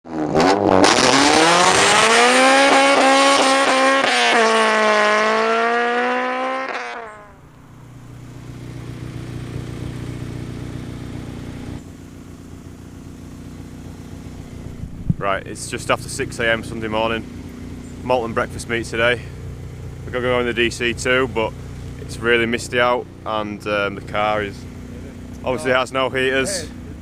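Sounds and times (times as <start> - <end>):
car engine revving: 0.1 - 27.0.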